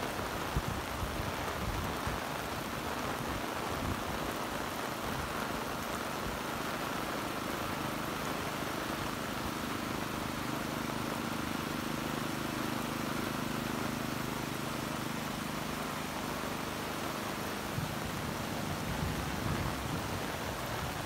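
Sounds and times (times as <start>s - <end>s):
heavy rain pouring on road: 0.0s - 21.0s.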